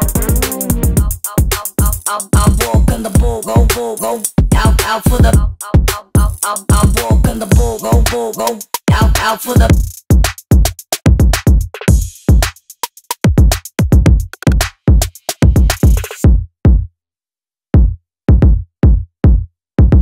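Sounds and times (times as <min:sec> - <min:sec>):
hip-hop drum machine beat: 0:00.0 - 0:16.9, 0:17.8 - 0:20.0.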